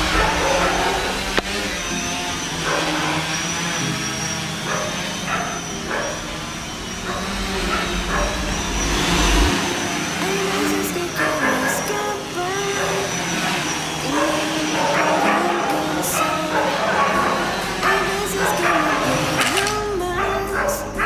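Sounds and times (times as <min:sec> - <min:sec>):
electric propeller motors whirring: 0:00.0 - 0:21.0
thin high whine: 0:00.0 - 0:21.0.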